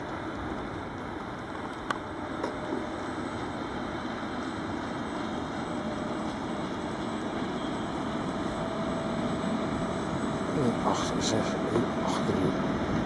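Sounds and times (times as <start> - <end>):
faint whine: 0.0 - 13.0
train rumbling past: 0.0 - 13.0.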